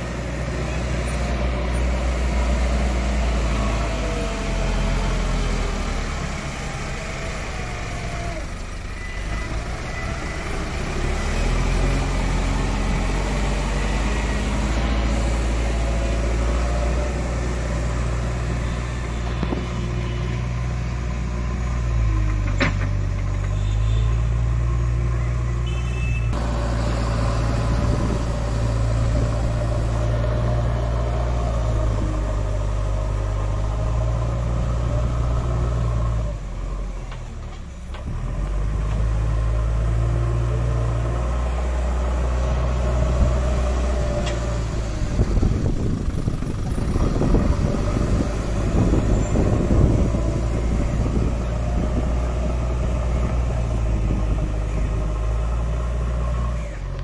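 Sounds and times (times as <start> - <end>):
diesel engines of construction machines: 0.0 - 57.0.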